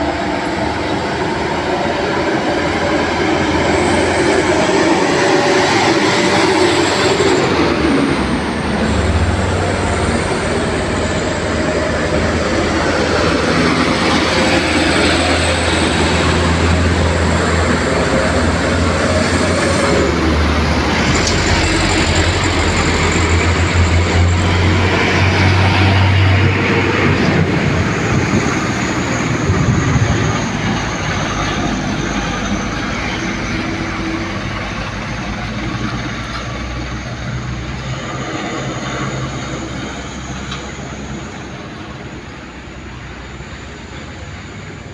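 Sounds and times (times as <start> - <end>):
road and tyre noise: 0.0 - 44.9
truck diesel engine droning: 0.0 - 44.9.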